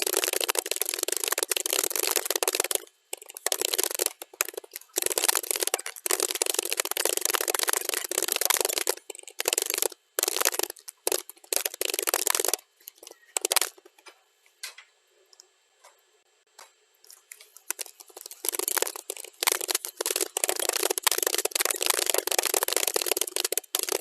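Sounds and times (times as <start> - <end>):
keyboard typing: 0.0 - 14.1, 17.3 - 24.0.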